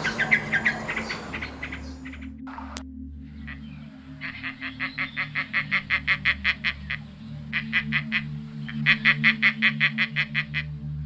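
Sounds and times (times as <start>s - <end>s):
steady low drone: 0.0s - 11.0s.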